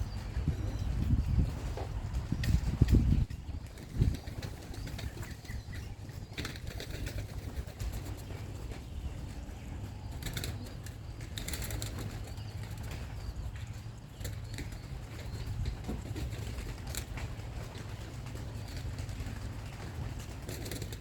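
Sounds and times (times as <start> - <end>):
pigeon wings flapping: 0.0 - 9.6, 10.2 - 21.0
wind rumble on microphone: 0.0 - 21.0.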